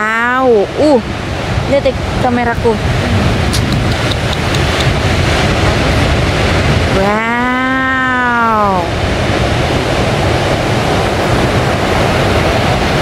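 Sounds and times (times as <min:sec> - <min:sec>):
ocean surf breaking: 0:00.0 - 0:13.0
low rumble: 0:01.0 - 0:13.0.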